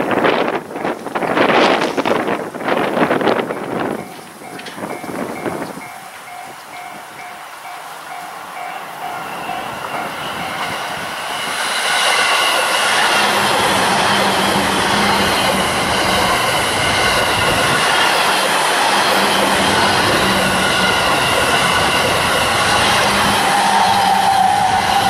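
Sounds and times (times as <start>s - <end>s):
train wheels roaring on rails: 0.0s - 25.0s.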